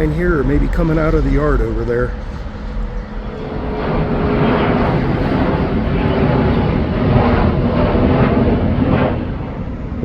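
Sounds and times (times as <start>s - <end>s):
large vehicle rumbling past: 0.0s - 8.7s.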